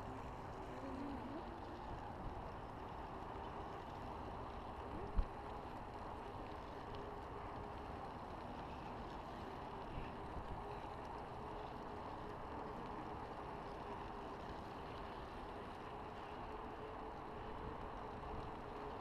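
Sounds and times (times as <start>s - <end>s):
bicycle tyres rolling on asphalt: 0.0s - 19.0s
faint steady hum: 0.0s - 19.0s.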